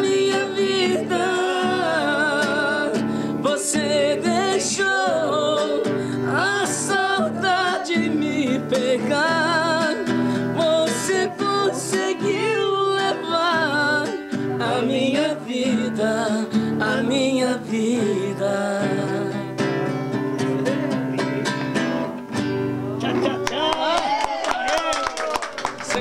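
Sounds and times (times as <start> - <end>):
man singing: 0.0 - 21.6
acoustic guitar strumming: 0.0 - 23.8.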